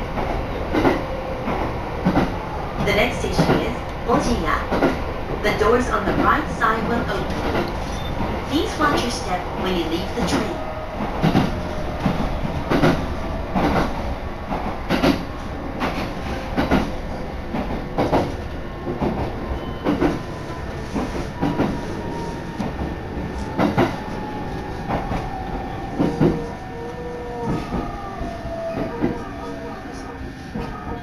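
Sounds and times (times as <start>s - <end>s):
train rolling rumble: 0.0s - 31.0s
train wheels clickety-clack: 0.0s - 31.0s
faint train whine: 5.3s - 31.0s.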